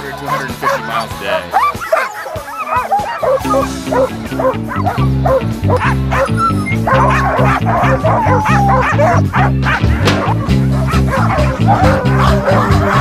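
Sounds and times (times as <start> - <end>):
dogs barking and yipping: 0.0 - 13.0
pulsing background music: 0.0 - 13.0.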